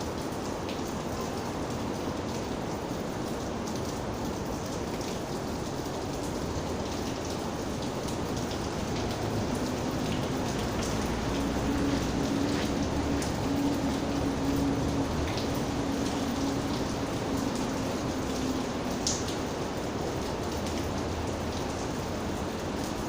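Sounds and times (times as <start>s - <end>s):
raindrops ticking on surface: 0.0s - 23.0s
steady rain hiss: 0.0s - 23.0s.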